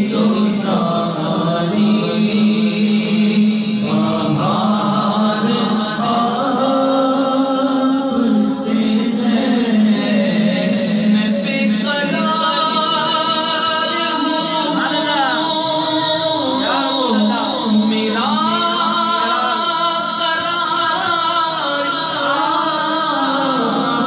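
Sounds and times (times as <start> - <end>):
man singing devotional song: 0.0 - 24.0.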